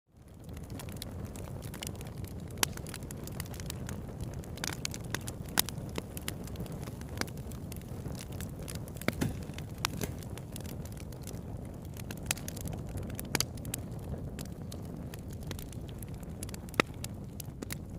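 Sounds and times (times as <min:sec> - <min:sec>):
burning wood crackling and popping: 0:00.2 - 0:17.9
low rumble of flames: 0:00.2 - 0:17.9.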